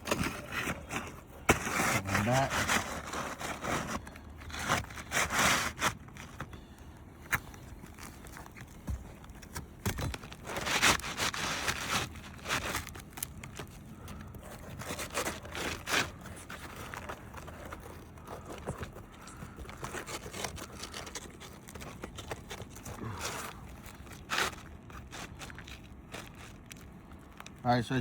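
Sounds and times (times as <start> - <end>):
roof shingles scraping and rustling: 0.0 - 28.0.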